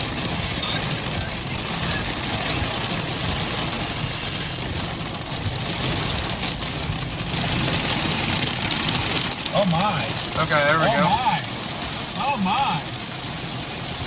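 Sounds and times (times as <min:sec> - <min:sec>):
vehicle low rumble: 0:00.0 - 0:14.0
wind and rain: 0:00.0 - 0:14.0.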